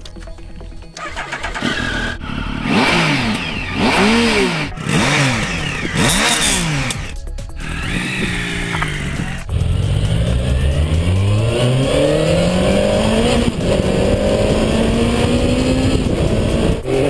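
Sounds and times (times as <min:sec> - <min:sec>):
motorcycle engine revving: 0:00.8 - 0:17.0.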